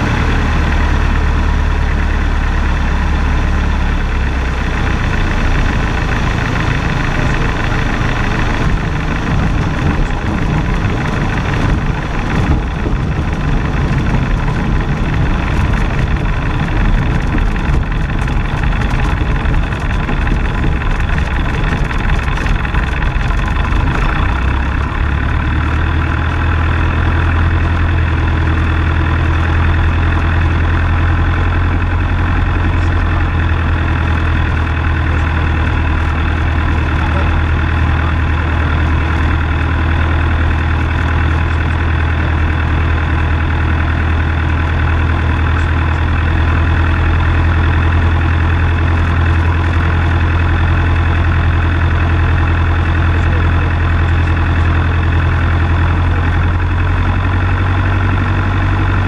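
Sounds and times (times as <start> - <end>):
airplane engine and propeller idling: 0.0 - 59.0.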